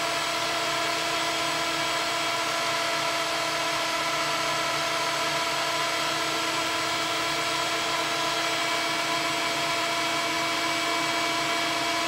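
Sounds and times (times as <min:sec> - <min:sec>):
electric meat grinder humming: 0:00.0 - 0:12.0.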